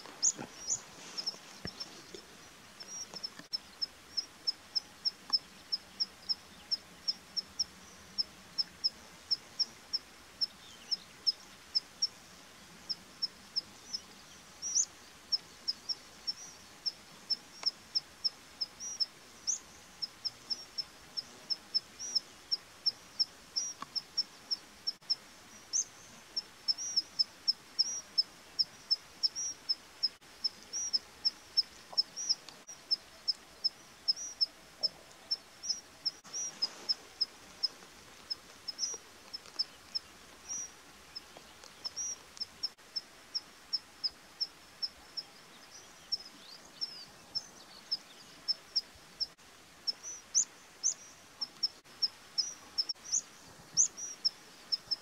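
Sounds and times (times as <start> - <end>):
small bird chirping: 0.0 - 12.2, 12.9 - 55.0
faint background hiss: 0.0 - 55.0.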